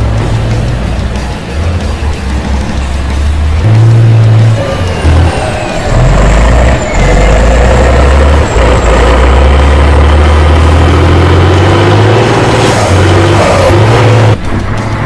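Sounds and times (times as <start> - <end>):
diesel truck engine under load: 0.0 - 15.0.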